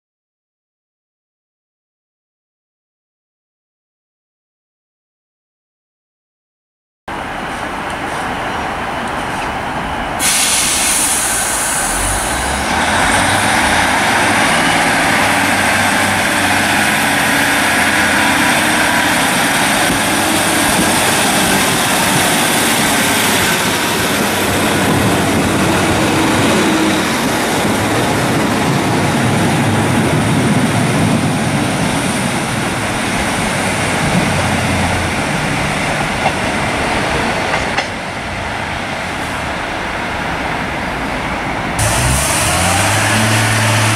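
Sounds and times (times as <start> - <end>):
diesel train engines revving: 7.1 - 43.9
train wheels rumbling on rails: 7.1 - 43.9.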